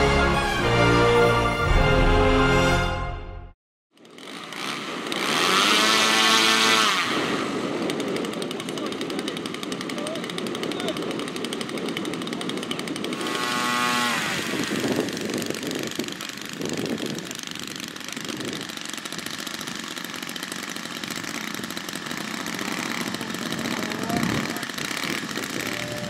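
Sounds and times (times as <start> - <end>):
model aircraft engine running: 4.0 - 26.0.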